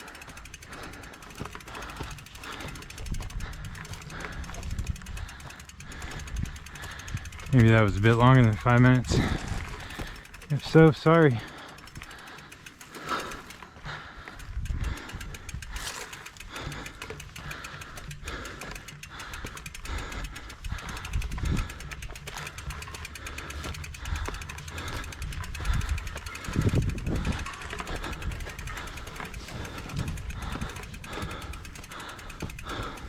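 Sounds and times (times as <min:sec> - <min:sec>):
bicycle freehub clicking rapidly: 0:00.0 - 0:33.0.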